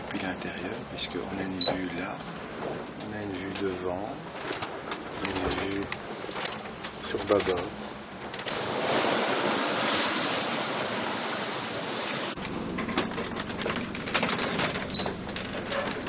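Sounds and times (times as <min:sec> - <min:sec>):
wind and sea rushing: 0:00.0 - 0:15.7.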